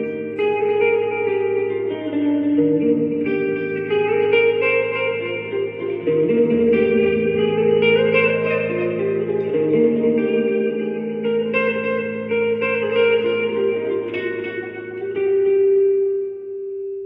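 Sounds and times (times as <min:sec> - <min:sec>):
electric guitar picked notes: 0:00.0 - 0:17.0.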